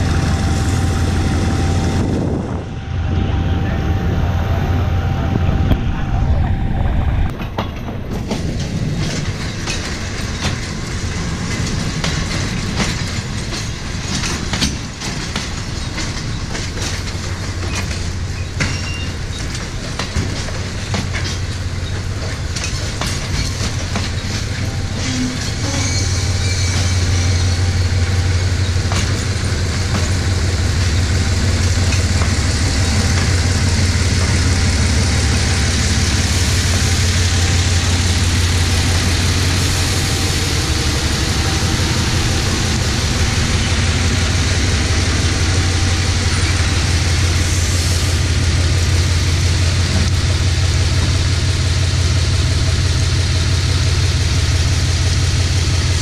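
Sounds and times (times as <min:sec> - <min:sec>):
diesel locomotive engine humming: 0:00.0 - 0:56.0.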